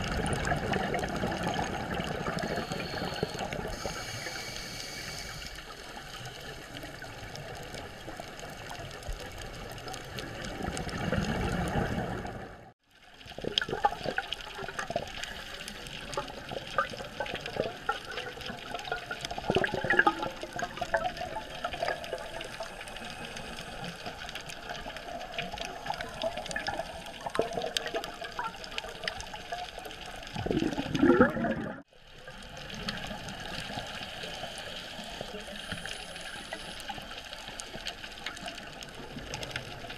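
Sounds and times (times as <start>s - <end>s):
clicks and crackles: 0.0s - 31.2s, 32.0s - 39.9s
bubbling: 0.0s - 39.9s
underwater watery wash: 0.0s - 39.9s.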